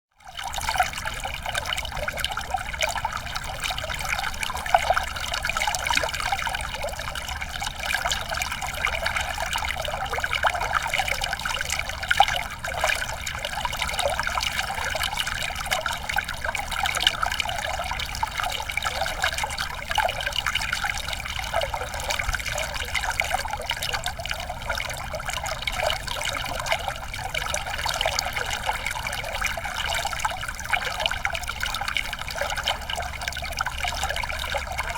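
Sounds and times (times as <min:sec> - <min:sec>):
stream trickling over rocks: 0:00.2 - 0:34.9.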